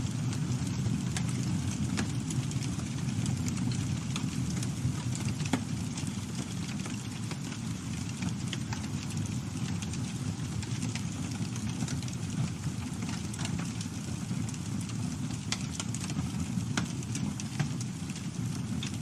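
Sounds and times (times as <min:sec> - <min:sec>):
burning wood crackling and popping: 0:00.0 - 0:19.0
campfire flames rushing: 0:00.0 - 0:19.0.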